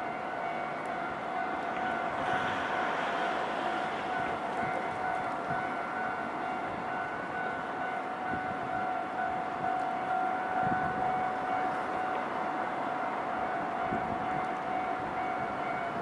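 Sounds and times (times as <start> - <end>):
level crossing warning signal: 0.0 - 16.0
rail traffic rumbling: 0.0 - 16.0.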